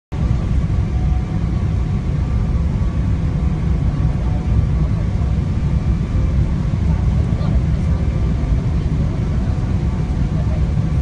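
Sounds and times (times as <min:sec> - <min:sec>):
aircraft cabin rumble: 0:00.1 - 0:11.0.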